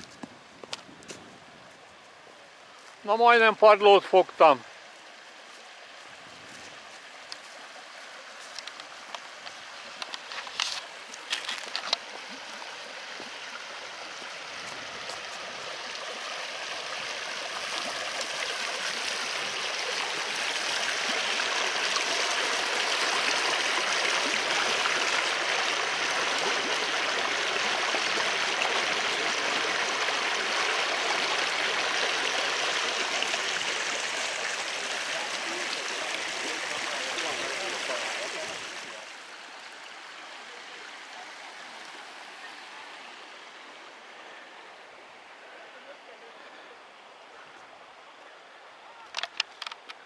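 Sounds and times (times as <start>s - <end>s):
brook burbling over stones: 2.2s - 50.0s.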